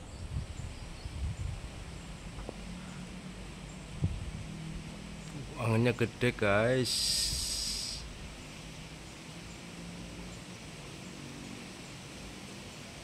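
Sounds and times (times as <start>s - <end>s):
wind rustling palm fronds: 0.0s - 13.0s
high hiss: 2.0s - 13.0s.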